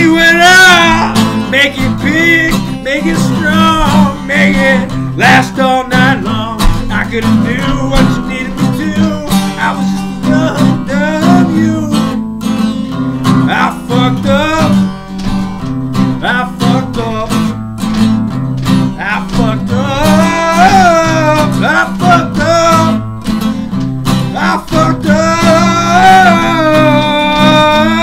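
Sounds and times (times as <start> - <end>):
person singing: 0.0 - 12.3, 13.2 - 15.1, 16.1 - 17.6, 18.8 - 23.1, 24.2 - 28.0
acoustic guitar strummed and picked: 0.0 - 28.0.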